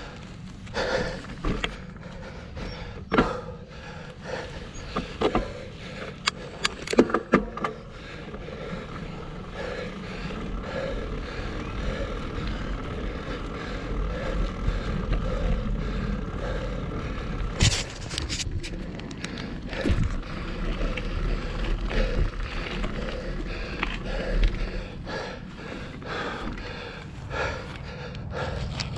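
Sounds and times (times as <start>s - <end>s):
bike clicking and rattling: 0.0s - 28.9s
bike tyres and wind rumble: 0.0s - 28.9s.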